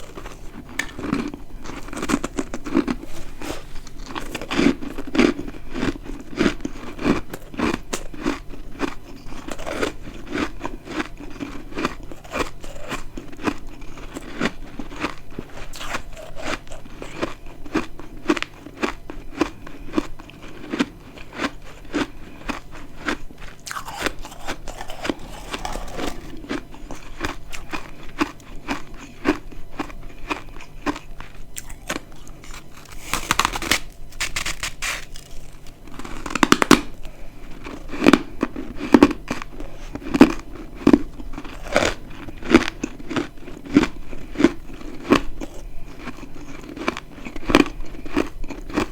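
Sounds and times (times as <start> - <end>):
chewing crispy frost chunks: 0.0 - 48.9.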